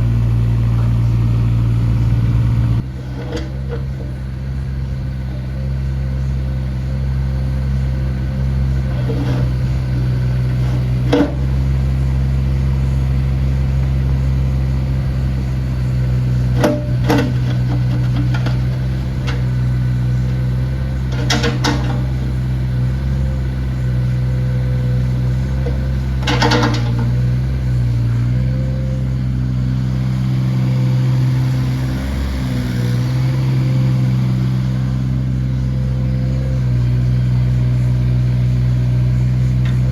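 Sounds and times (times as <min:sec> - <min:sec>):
mini excavator diesel engine: 0:00.0 - 0:39.9.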